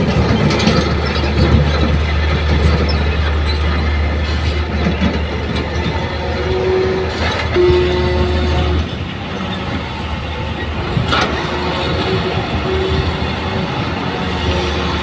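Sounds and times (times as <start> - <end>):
diesel excavator engine hum: 0.0 - 15.0.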